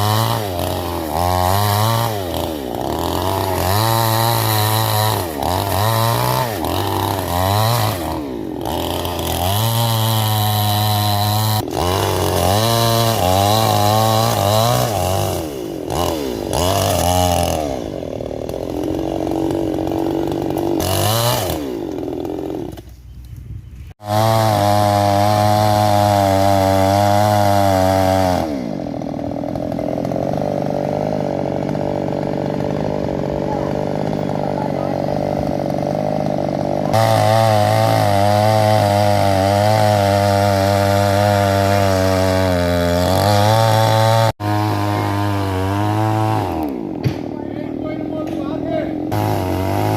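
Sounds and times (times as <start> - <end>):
chainsaw revving: 0.0 - 23.0, 23.9 - 49.9.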